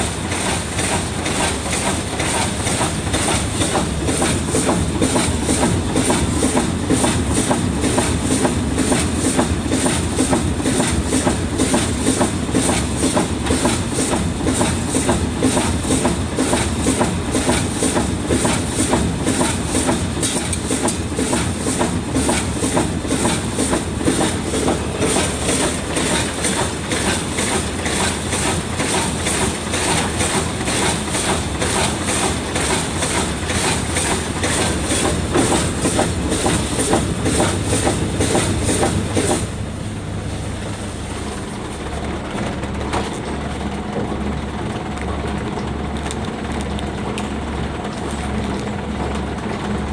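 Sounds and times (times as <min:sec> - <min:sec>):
machine hum: 0:00.0 - 0:42.2
packing machine clatter: 0:00.0 - 0:49.9.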